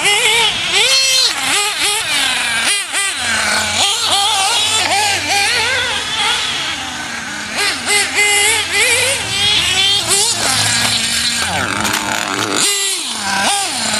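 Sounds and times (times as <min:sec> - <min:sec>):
rc buggy nitro engine whining: 0:00.0 - 0:13.9.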